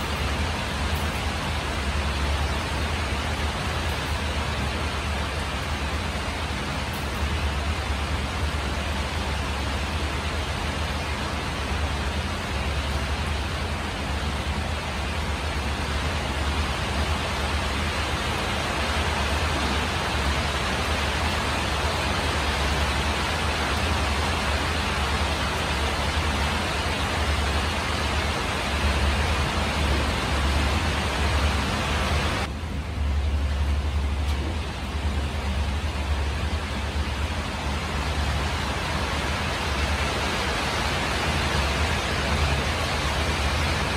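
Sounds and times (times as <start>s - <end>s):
rain on a metal roof: 0.0s - 43.9s.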